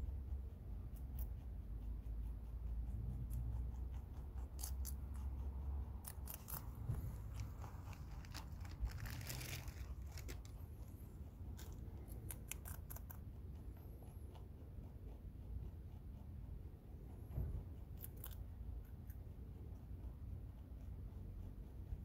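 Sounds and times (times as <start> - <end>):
rabbit chewing stems: 0.0 - 22.0.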